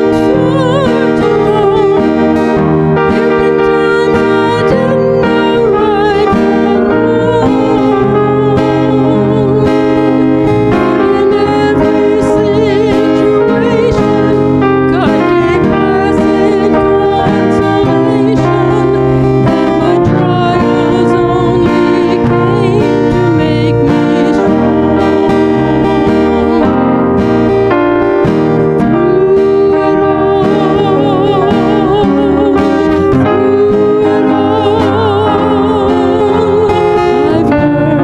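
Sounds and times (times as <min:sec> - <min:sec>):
worship band playing: 0:00.0 - 0:38.0.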